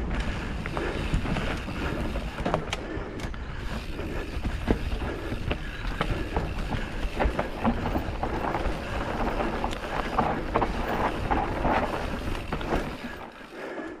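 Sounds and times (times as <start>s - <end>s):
bike clattering and rattling: 0.0s - 14.0s
bike tyres on gravel: 0.0s - 14.0s.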